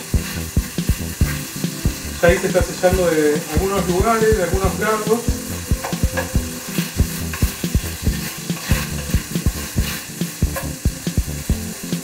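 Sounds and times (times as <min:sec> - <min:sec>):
wooden spoon scraping a pan: 0:00.0 - 0:03.4, 0:04.0 - 0:10.8
meat sizzling in hot oil: 0:00.0 - 0:12.0.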